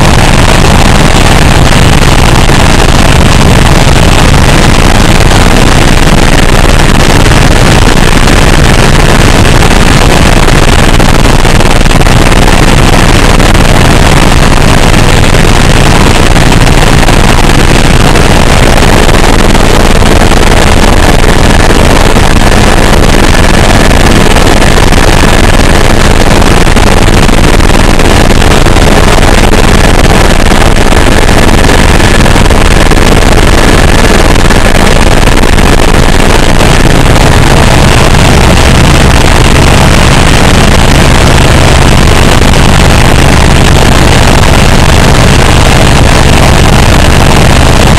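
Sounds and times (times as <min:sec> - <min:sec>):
helicopter engine and rotor noise: 0:00.0 - 0:47.9.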